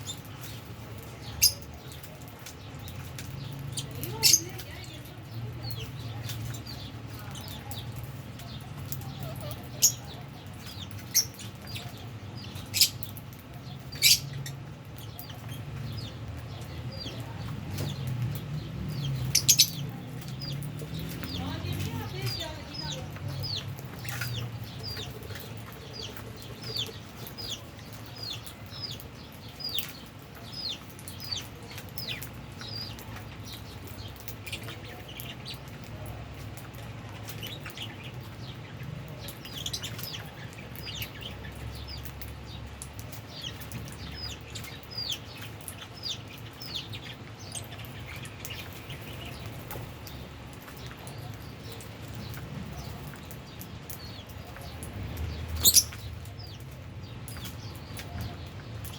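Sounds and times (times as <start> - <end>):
lovebirds chirping: 0.0 - 58.9.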